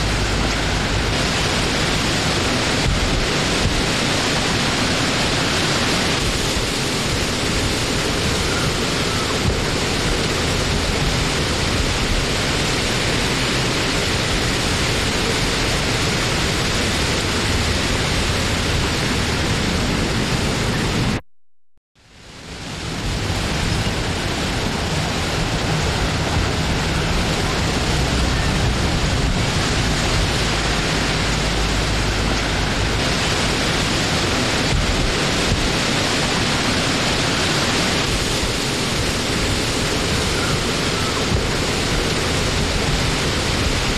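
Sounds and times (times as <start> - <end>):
wind blowing: 0.0 - 21.2, 22.1 - 43.9.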